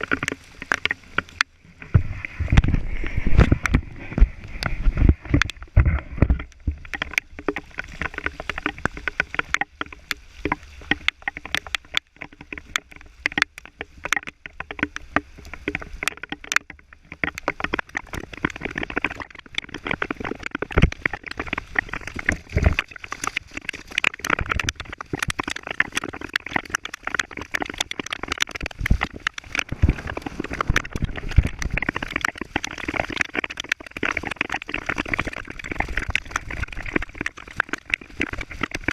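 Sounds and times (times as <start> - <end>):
running water: 0.0 - 38.9
heavy rain on hard surface: 2.5 - 14.6, 17.3 - 38.9.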